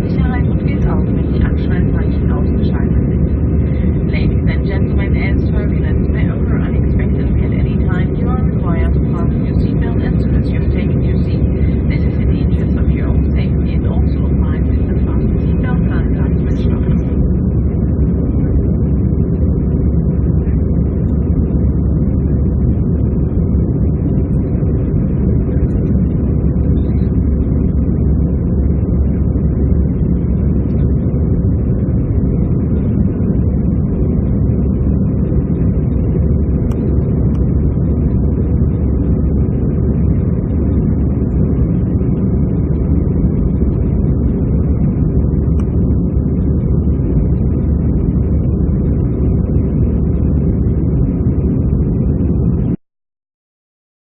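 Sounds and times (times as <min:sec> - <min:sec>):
jet engines rumbling: 0:00.0 - 0:52.8.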